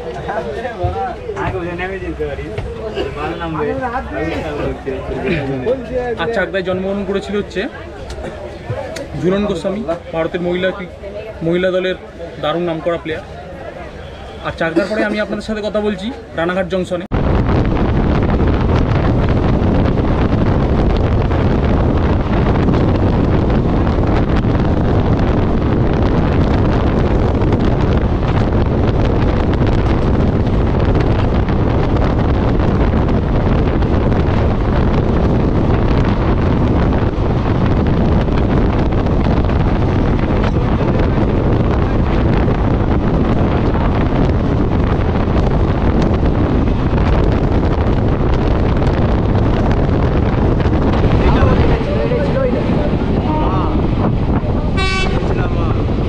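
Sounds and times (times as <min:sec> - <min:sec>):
train rumbling in motion: 0:00.0 - 0:56.0
wind buffeting microphone: 0:00.0 - 0:56.0.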